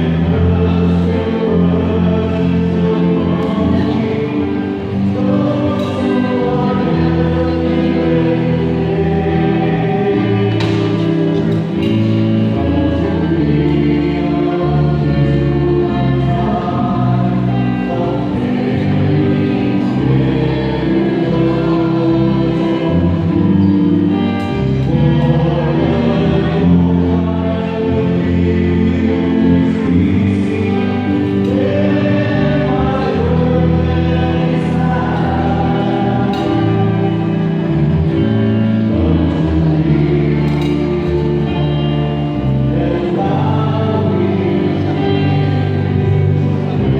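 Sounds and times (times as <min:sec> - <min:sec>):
choir singing a hymn: 0:00.0 - 0:46.9
instrumental accompaniment: 0:00.0 - 0:46.9.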